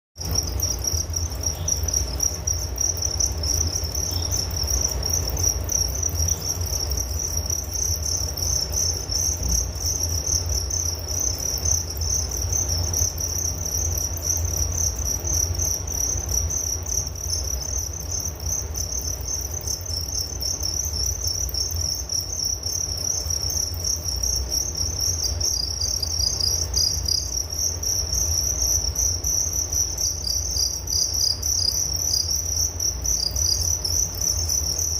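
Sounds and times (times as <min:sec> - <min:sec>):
crickets chirping: 0:00.2 - 0:34.9
low background rumble: 0:00.2 - 0:34.9.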